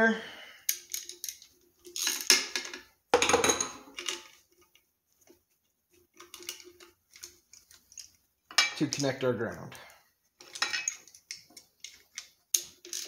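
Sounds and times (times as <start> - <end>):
wires and metal parts clattering: 0.6 - 13.0.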